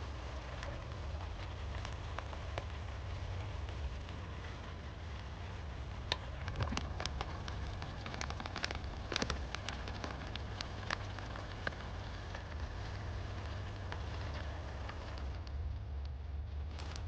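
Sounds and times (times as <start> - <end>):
stew crackling in a pan: 0.0 - 17.0
stove low hum: 0.0 - 17.0.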